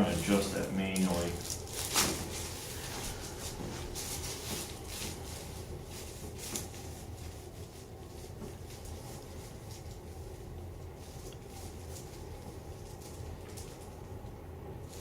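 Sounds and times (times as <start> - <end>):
hands rubbing and clothing rustling: 0.0 - 14.0
low steady hum: 0.0 - 15.0.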